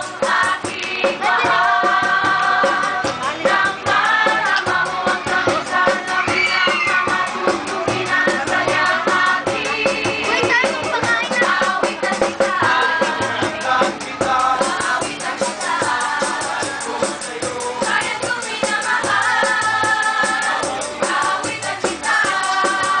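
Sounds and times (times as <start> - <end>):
group singing in chorus: 0.0 - 23.0
rhythmic accompaniment: 0.0 - 23.0.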